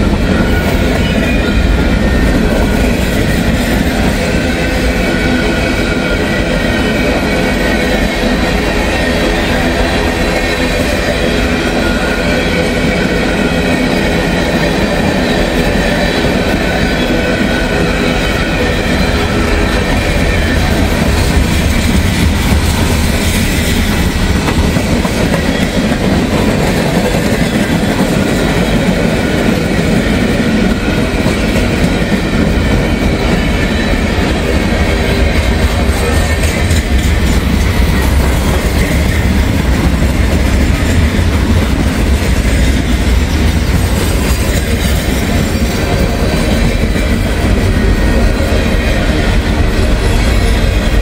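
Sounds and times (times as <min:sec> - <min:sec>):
steel train wheels on rails: 0:00.0 - 0:51.0.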